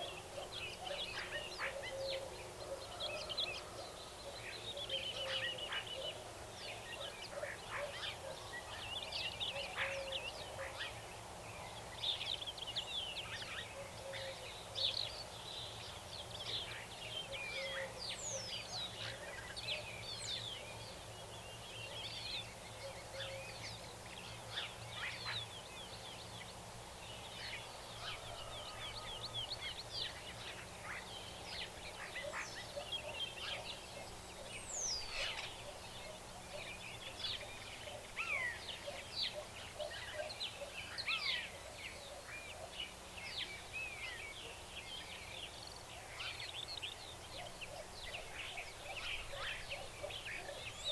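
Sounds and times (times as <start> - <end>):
wild birds singing and calling: 0.0 - 50.9.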